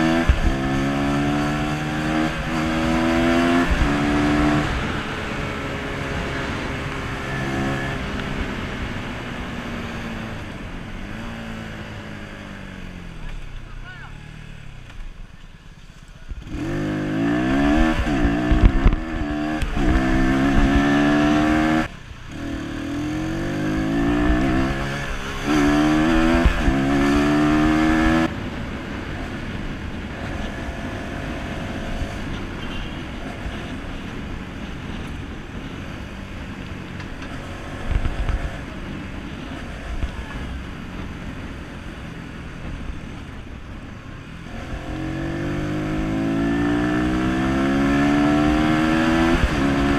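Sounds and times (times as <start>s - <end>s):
motorcycle engine accelerating: 0.0s - 13.6s, 16.3s - 34.1s, 35.7s - 49.9s
road and wind noise: 0.0s - 49.9s.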